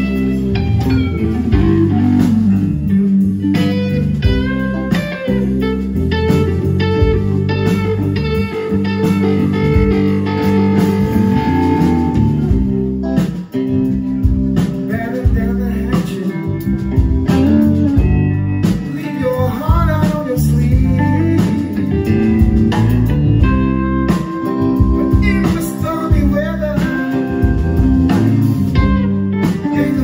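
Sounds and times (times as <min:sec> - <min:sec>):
live blues band: 0:00.0 - 0:30.0.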